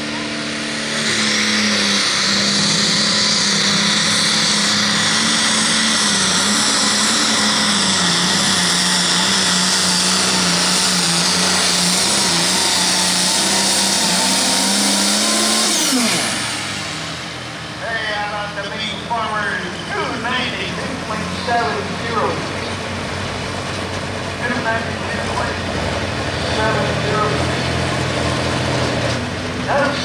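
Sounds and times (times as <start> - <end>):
diesel engine running under load: 0.0 - 30.0
high turbo whine: 0.0 - 30.0.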